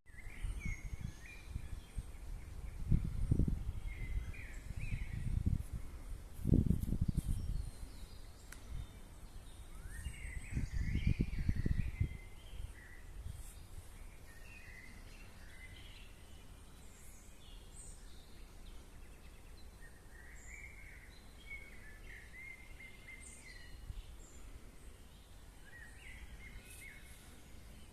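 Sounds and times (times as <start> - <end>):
small birds chirping: 0.1 - 27.9.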